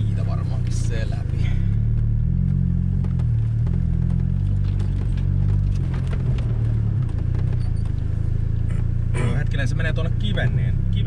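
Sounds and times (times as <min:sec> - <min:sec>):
car engine drone: 0:00.0 - 0:11.0
tyres on gravel road: 0:00.0 - 0:11.0.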